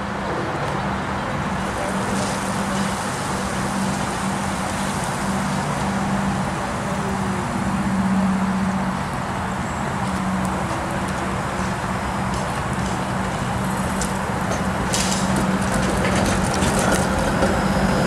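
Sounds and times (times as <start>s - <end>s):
road traffic hiss: 0.0s - 18.0s
streetcar motor hum: 0.0s - 18.0s.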